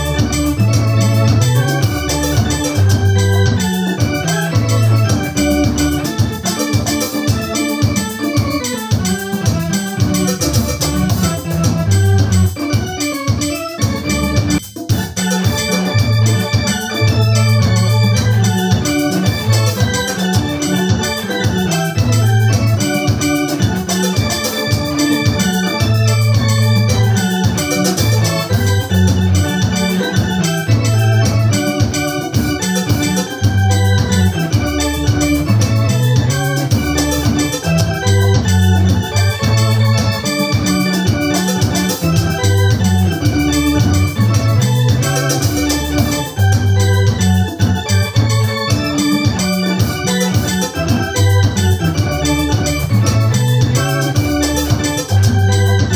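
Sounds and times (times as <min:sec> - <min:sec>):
keyboard playing worship song: 0:00.0 - 0:55.9.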